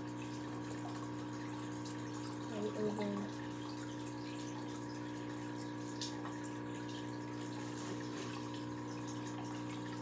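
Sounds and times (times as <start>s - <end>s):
aquarium filter humming: 0.0s - 10.0s
water trickling: 0.0s - 10.0s.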